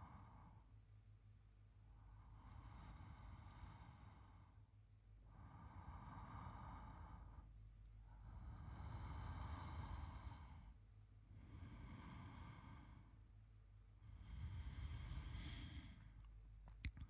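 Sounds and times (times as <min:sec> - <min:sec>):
man breathing in sleep: 0:00.0 - 0:00.8, 0:01.9 - 0:13.3, 0:13.9 - 0:16.3.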